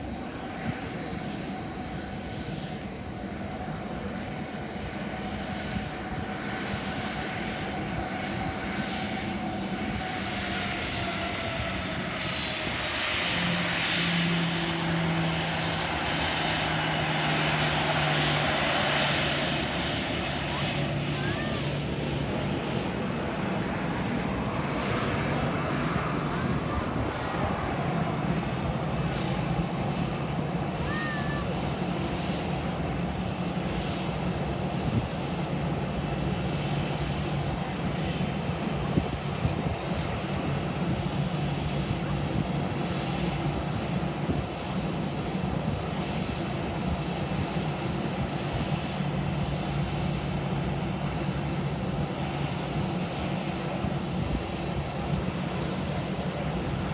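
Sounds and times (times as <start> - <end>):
aircraft engines droning: 0.0 - 56.9.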